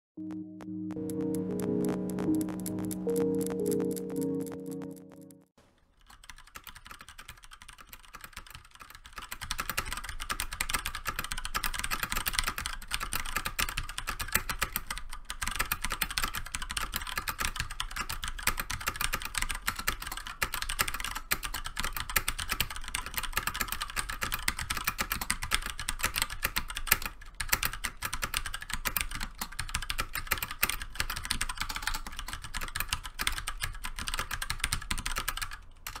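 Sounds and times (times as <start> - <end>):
mechanical keyboard typing: 6.0 - 36.0.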